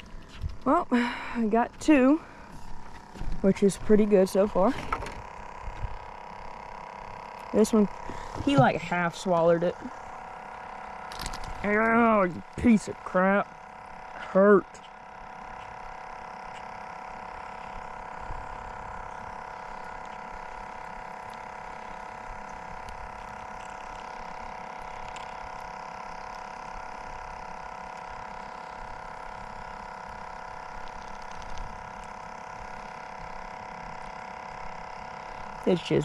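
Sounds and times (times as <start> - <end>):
steady hum of held tones: 0.0 - 36.0.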